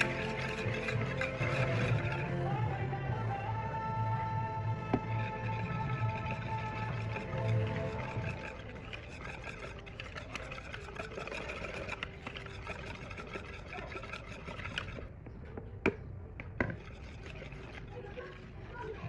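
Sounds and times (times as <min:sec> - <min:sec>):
kitchen utensils scraping and clicking: 0:00.0 - 0:02.7, 0:04.8 - 0:15.6, 0:16.4 - 0:19.0.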